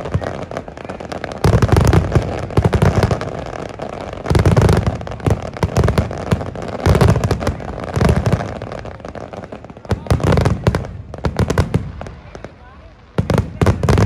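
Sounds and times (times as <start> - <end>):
fireworks booming: 0.0 - 14.0
fireworks crackling: 0.0 - 14.0.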